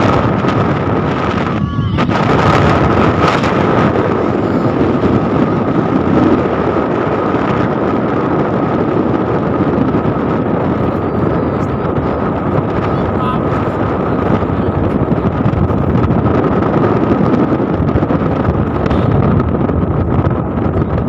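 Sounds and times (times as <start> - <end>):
road noise: 0.0 - 21.0
wind buffeting microphone: 0.0 - 21.0
vehicle engine: 2.4 - 21.0.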